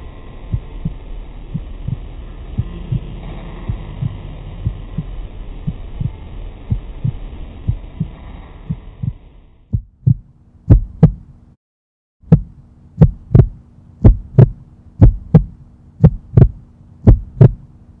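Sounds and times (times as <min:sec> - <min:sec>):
faint hum: 0:00.0 - 0:11.6, 0:12.3 - 0:18.0
heartbeat thumps: 0:00.5 - 0:11.4, 0:12.2 - 0:17.7.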